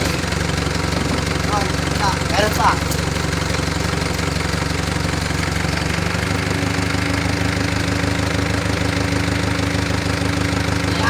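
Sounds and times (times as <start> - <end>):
diesel generator running: 0.0 - 11.0.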